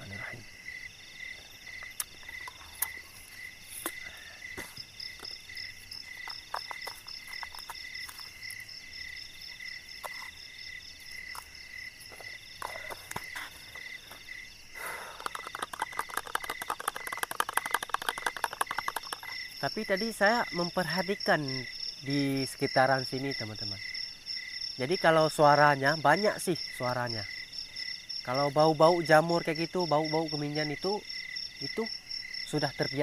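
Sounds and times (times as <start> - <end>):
high buzzing insect trills: 0.0 - 29.0
frogs calling: 0.0 - 33.0.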